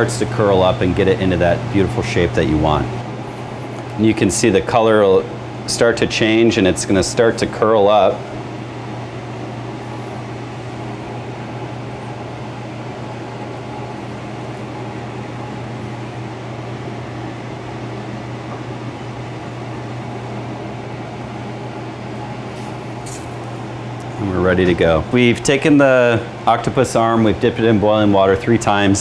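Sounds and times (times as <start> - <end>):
ventilation fan hiss: 0.0 - 29.0.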